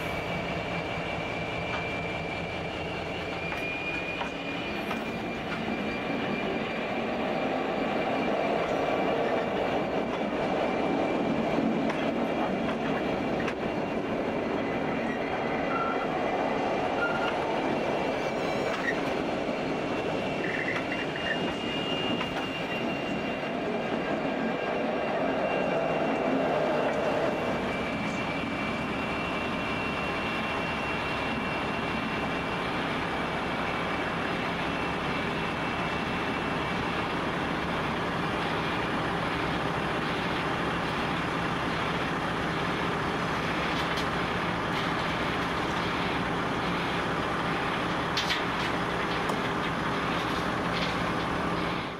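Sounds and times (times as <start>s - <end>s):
diesel locomotive engines drone: 0.0s - 51.9s.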